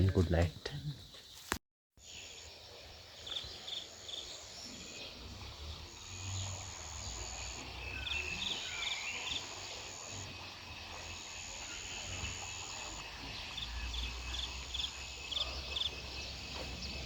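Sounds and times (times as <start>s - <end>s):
insect chirps: 0.0s - 17.0s
insects trilling: 0.0s - 17.0s.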